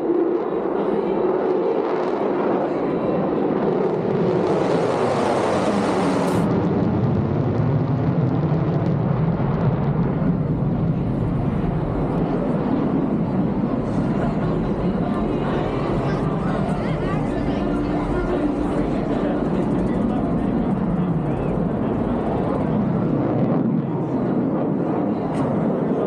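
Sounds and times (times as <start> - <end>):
jet fighter flying past: 0.0 - 26.0.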